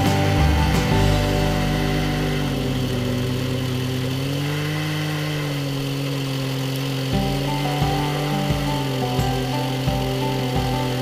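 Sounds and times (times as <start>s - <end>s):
chainsaw cutting through log: 0.0s - 11.0s.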